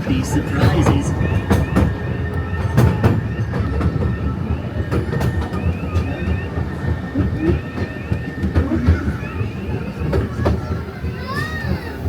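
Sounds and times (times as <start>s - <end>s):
small train rumbling on track: 0.0s - 12.0s
wheels clicking over rail joints: 0.0s - 12.0s.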